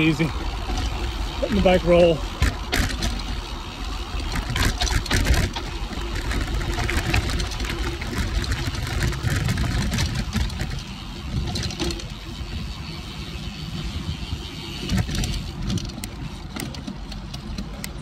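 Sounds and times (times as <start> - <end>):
bike clicks and rattles: 0.0 - 18.0
bike tyres rolling over dirt: 0.0 - 18.0
low wind rumble: 0.0 - 18.0.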